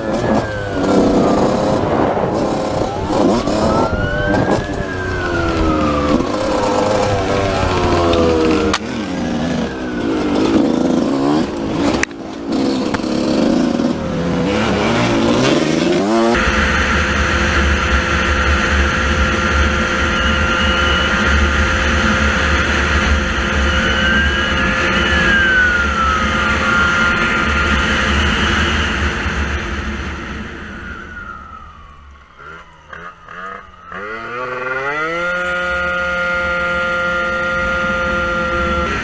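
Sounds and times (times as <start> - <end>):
dirt bike engine revving: 0.0 - 39.0
motorbike running steadily: 0.0 - 39.0.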